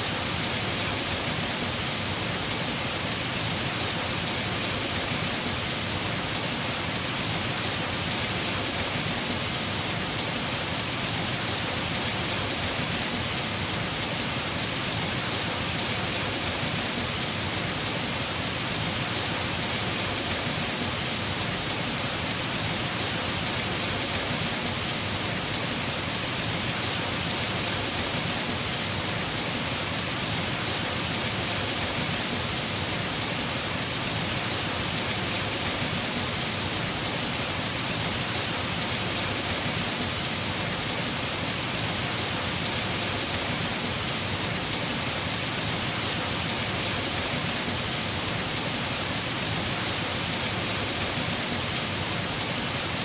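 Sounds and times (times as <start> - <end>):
heavy rain on a roof: 0.0 - 53.0.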